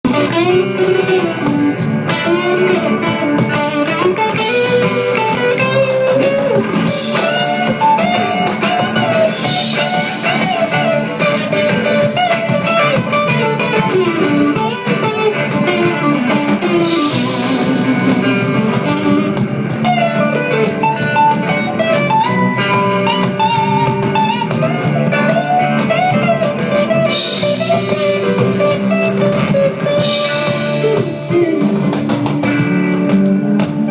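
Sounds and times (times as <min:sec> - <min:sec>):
blues-rock band playing: 0:00.0 - 0:33.9
guitar melody: 0:00.0 - 0:33.9.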